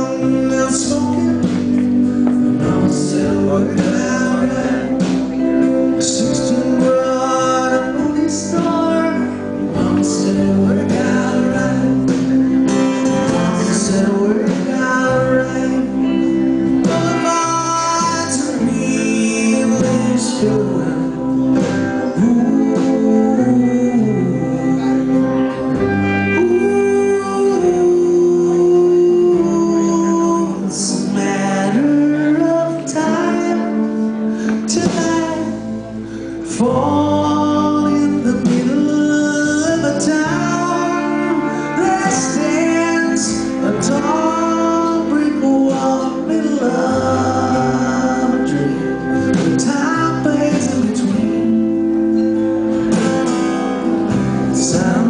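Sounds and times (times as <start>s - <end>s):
electric guitar: 0.0s - 55.0s
man singing: 0.0s - 55.0s
strummed acoustic guitar: 0.0s - 55.0s.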